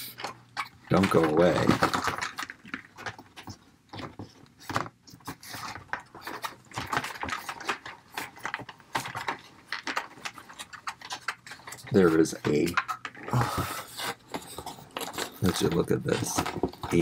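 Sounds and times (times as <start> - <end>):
plastic toys rattling and clicking: 0.0 - 17.0
cardboard tray rustling: 0.1 - 17.0.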